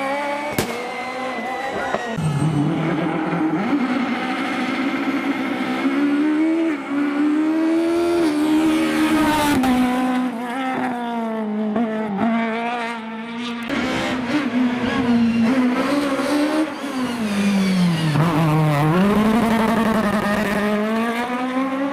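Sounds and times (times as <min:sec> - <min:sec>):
rally car engine revving: 0:00.0 - 0:21.9.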